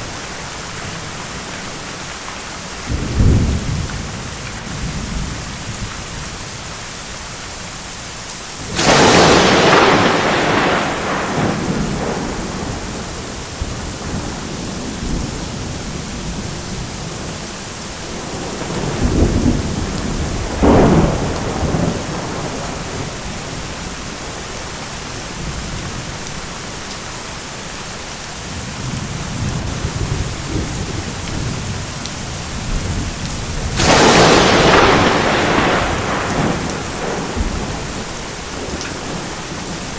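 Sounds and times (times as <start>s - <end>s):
steady rain: 0.0s - 39.9s
thunderclaps and rumbling: 2.8s - 6.7s, 8.6s - 26.9s, 28.4s - 39.9s.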